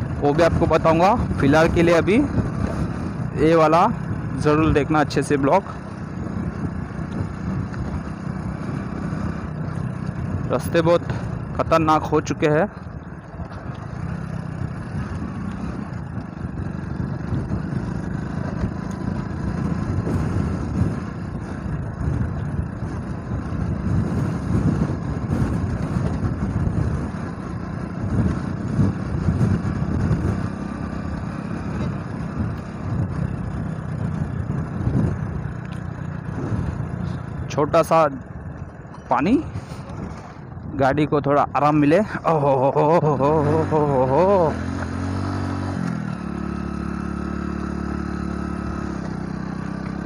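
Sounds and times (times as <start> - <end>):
motorcycle engine running: 0.0 - 50.0
wind and road noise: 0.0 - 50.0.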